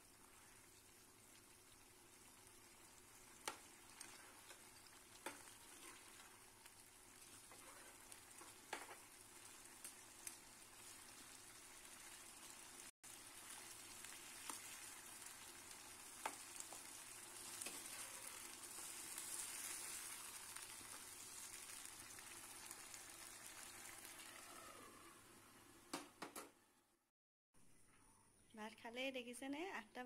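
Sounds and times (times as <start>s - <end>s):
curry sizzling in a pan: 0.0s - 25.9s.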